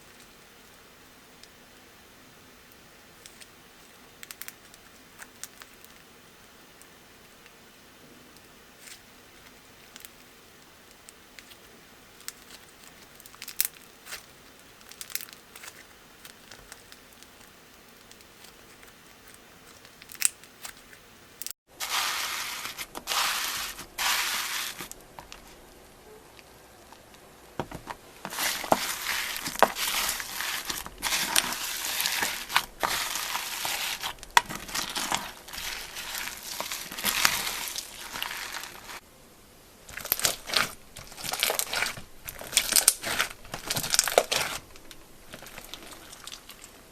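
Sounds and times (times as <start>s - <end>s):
crunchy slime crackling: 3.1s - 6.1s, 8.4s - 25.8s, 27.8s - 39.0s, 39.8s - 46.9s.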